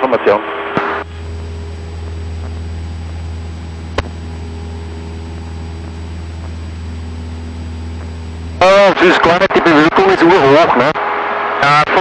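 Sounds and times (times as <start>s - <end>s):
airplane engine drone: 0.5s - 12.0s.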